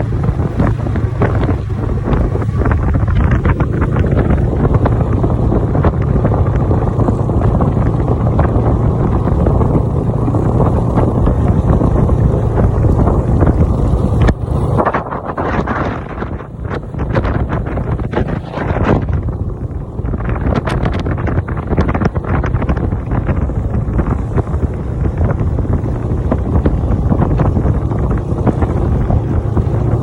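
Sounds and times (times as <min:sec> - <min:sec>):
snowmobile engine running: 0:00.0 - 0:30.0
wind on microphone: 0:00.0 - 0:30.0.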